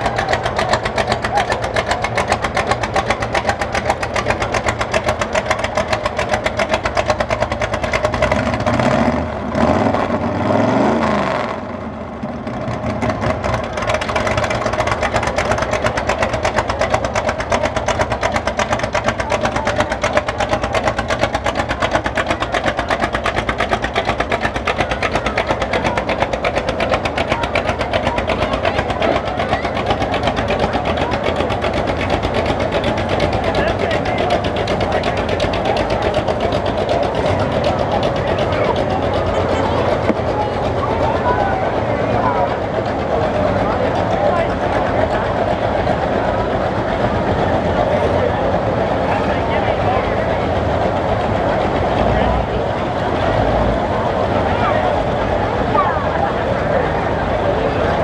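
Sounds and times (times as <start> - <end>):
car engine revving: 0.0 - 58.0
car engine running: 0.0 - 58.0.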